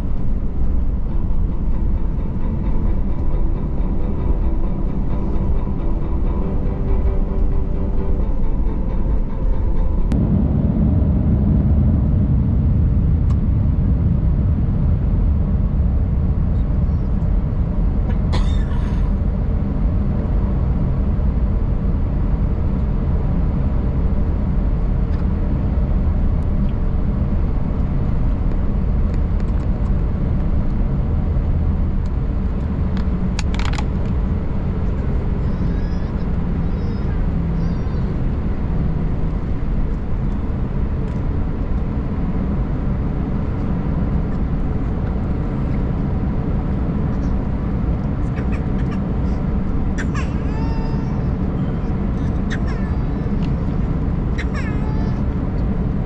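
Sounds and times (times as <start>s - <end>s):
aircraft engine at taxi power: 0.0s - 56.0s.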